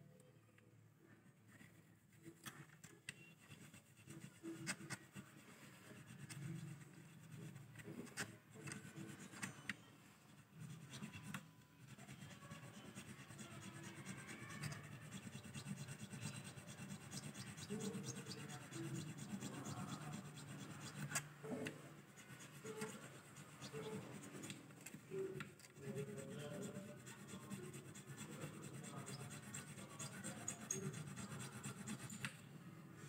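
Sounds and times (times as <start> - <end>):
file scraping: 3.2 - 32.4.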